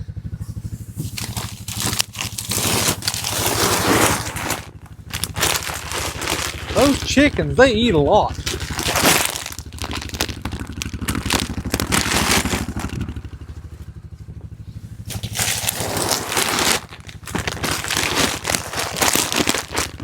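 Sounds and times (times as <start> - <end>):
diesel engine idling: 0.0 - 20.0
sacks scraping and crinkling: 1.0 - 13.4, 15.1 - 20.0.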